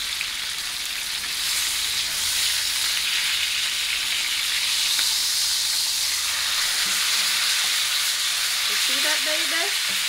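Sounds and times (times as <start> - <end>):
steak sizzling in a pan: 0.0 - 10.0.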